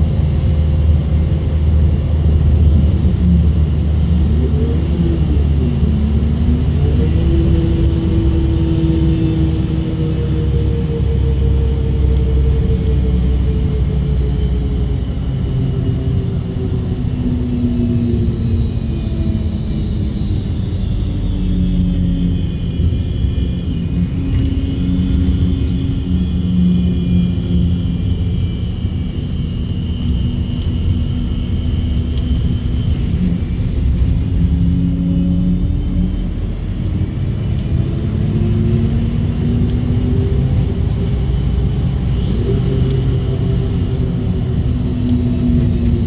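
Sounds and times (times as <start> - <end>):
diesel bus engine running: 0.0 - 46.0
high-pitched whine: 0.0 - 46.0.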